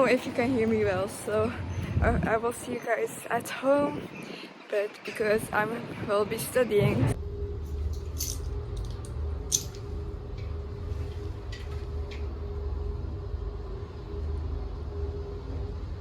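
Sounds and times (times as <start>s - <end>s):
faint constant hum: 0.0s - 16.0s
street noise rumble: 0.0s - 16.0s.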